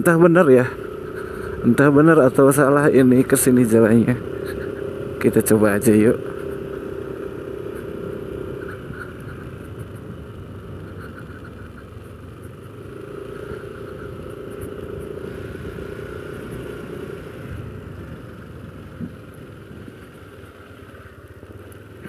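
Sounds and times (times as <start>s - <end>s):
road noise rushing: 0.0s - 22.0s
scooter engine running: 0.0s - 22.0s.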